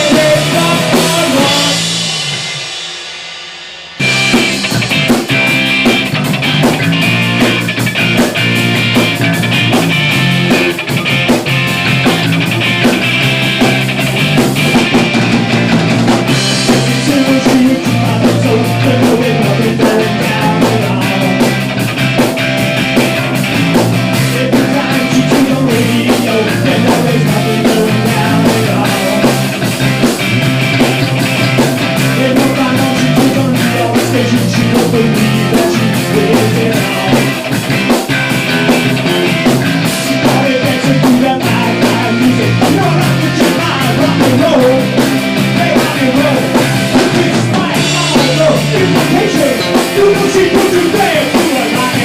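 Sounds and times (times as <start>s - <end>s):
punk rock band playing: 0.0s - 52.0s.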